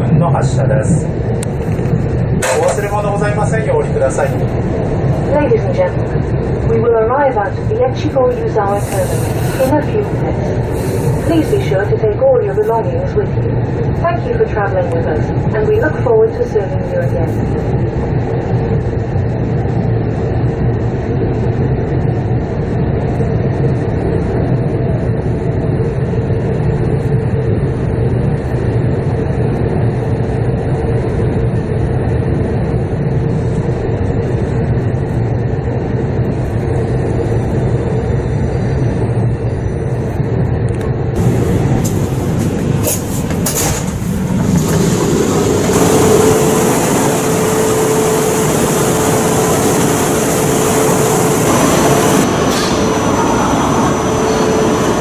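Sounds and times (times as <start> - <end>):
train rumble inside carriage: 0.0 - 55.0
steady hum tone: 1.0 - 23.0, 25.1 - 55.0.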